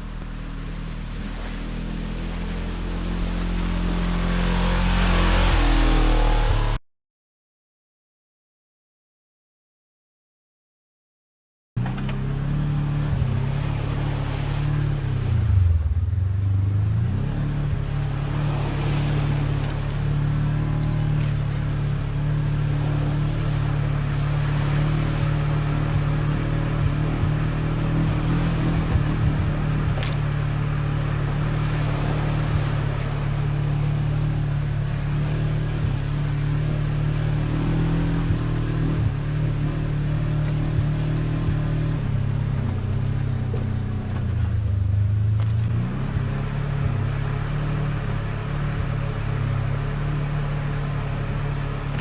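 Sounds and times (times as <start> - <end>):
off-road vehicle engine running: 0.0 - 6.8, 11.8 - 52.0.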